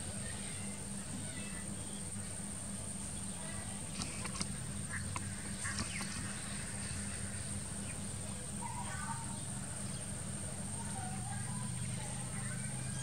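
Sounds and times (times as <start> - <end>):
steady high-pitched hiss: 0.0 - 13.0.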